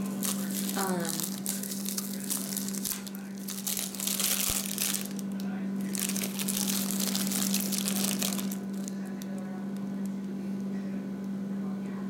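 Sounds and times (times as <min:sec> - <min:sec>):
plastic wrapper crinkling: 0:00.0 - 0:10.1
steady low hum: 0:00.0 - 0:12.0.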